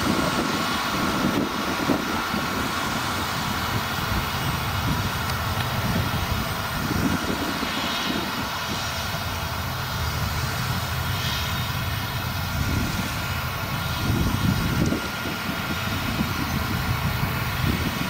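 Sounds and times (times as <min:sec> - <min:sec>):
combine harvester engine drone: 0:00.0 - 0:18.0
high whine: 0:00.0 - 0:18.0.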